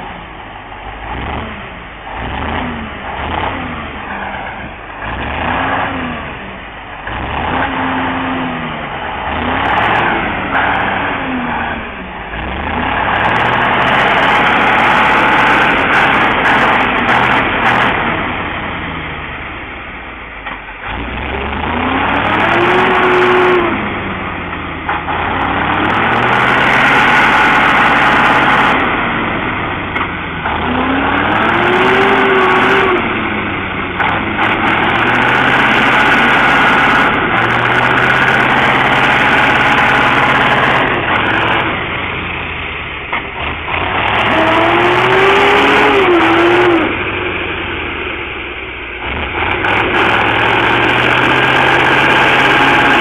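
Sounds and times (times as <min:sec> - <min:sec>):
truck engine revving: 0:00.0 - 0:53.0
tyres churning mud: 0:00.0 - 0:53.0.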